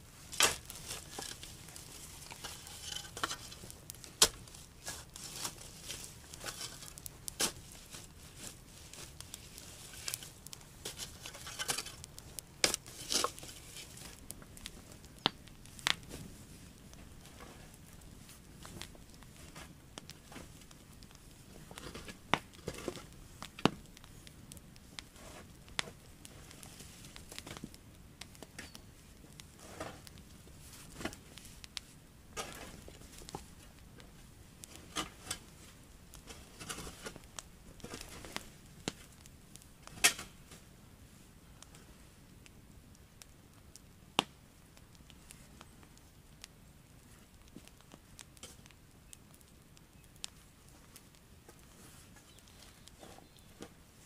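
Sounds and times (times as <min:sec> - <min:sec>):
rustling: 0:00.0 - 0:42.0, 0:50.1 - 0:54.0.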